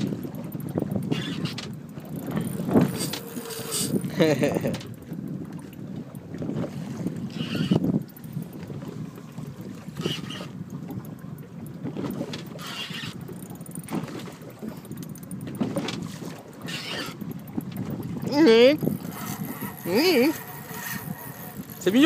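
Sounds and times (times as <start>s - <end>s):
sea noise: 0.0s - 22.0s
wind: 0.0s - 22.0s.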